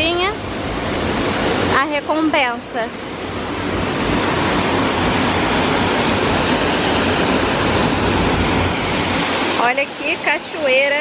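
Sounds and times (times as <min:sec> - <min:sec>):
waterfall rushing over rocks: 0:00.4 - 0:11.0.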